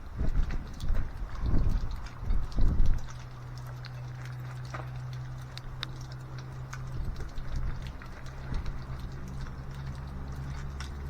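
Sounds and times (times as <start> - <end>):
steady low hum: 0.0 - 11.0
light clicks and taps: 0.3 - 11.0.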